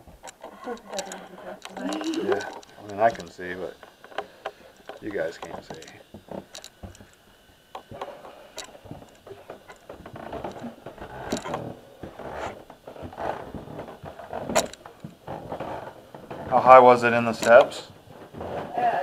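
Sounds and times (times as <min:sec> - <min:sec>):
footsteps on wooden stairs: 0:00.0 - 0:19.0.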